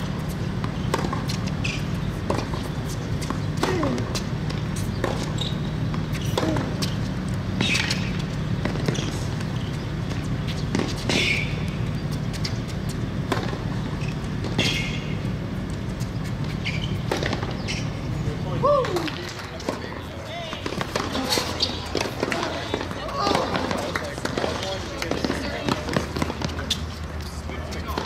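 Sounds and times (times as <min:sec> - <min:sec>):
racquets striking tennis ball: 0:00.0 - 0:18.1, 0:18.8 - 0:28.0
steady low hum: 0:00.0 - 0:28.0.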